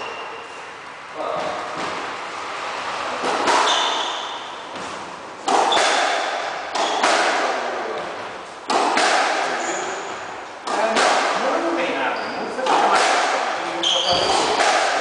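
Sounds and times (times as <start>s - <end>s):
squash ball hits echoing: 1.3s - 2.2s, 3.2s - 11.9s, 12.5s - 15.0s.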